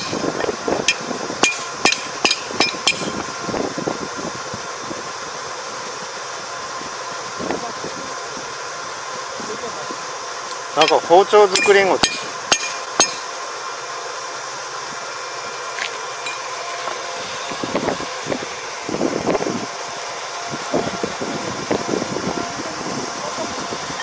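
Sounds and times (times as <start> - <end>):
machine whirring hum: 0.0 - 24.0.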